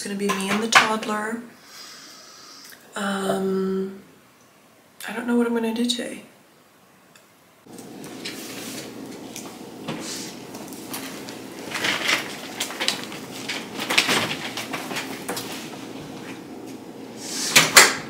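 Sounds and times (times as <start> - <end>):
room hum: 0.0 - 18.0.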